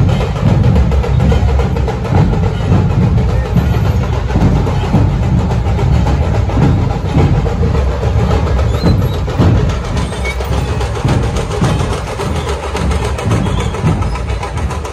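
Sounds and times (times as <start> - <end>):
deep drum beats: 0.0 - 14.9.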